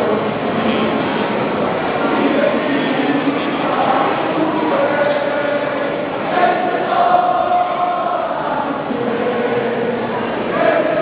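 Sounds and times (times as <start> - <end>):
crowd hubbub echoing in church: 0.0 - 11.0.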